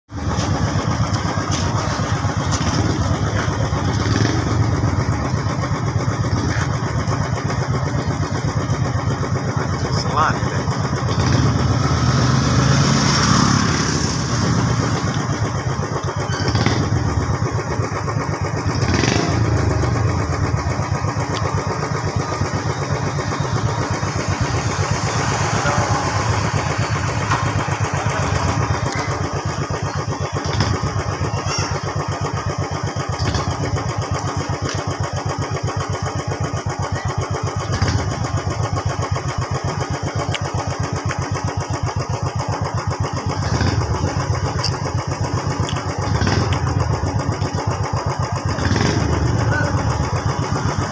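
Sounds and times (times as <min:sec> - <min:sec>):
motorcycle engine idling: 0:00.1 - 0:50.9.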